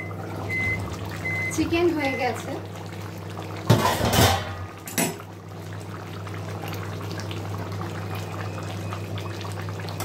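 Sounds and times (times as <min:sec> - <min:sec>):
curry bubbles popping: 0:00.0 - 0:03.7, 0:04.6 - 0:10.0.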